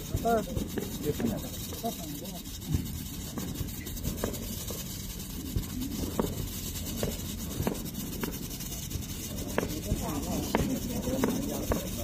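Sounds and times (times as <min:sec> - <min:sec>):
fireworks hissing: 0:00.0 - 0:12.0.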